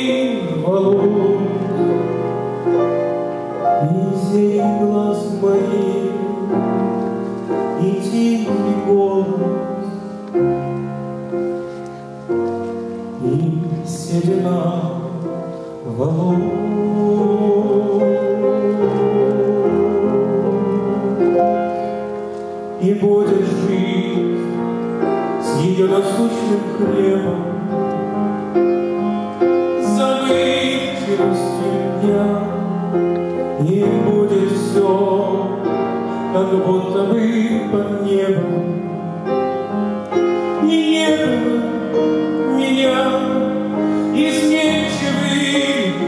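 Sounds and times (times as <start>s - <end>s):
man singing into microphone: 0.0s - 2.2s, 3.7s - 7.0s, 7.6s - 10.2s, 13.2s - 21.9s, 22.7s - 28.3s, 29.1s - 46.0s
grand piano accompaniment: 0.0s - 46.0s.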